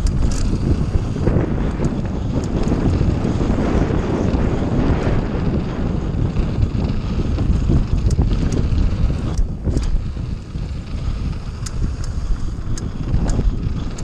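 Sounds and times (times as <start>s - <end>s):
bike clicks and rattles: 0.0s - 14.0s
tyres rumbling on dirt: 0.0s - 14.0s
wind buffeting microphone: 0.0s - 14.0s.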